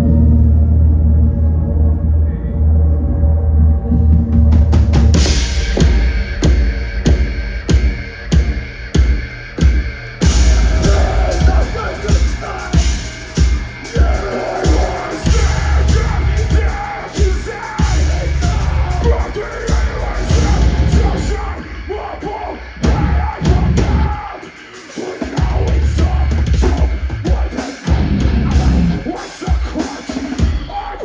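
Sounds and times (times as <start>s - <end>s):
bass: 0.0s - 31.0s
distorted guitars: 0.0s - 31.0s
heavy drums: 2.8s - 31.0s
yelled vocals: 3.8s - 31.0s.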